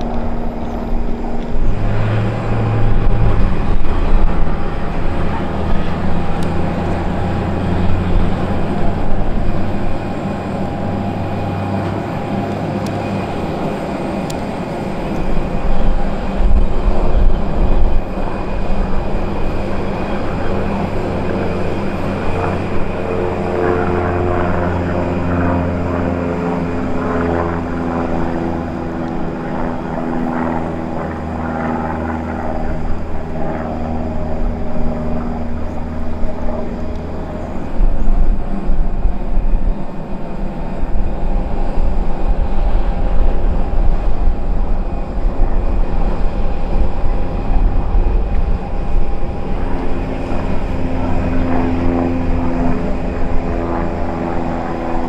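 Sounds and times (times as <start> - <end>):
small plane engine droning: 0.0 - 55.0
steady pitched hum: 0.0 - 55.0
wind rumbling on microphone: 0.0 - 55.0.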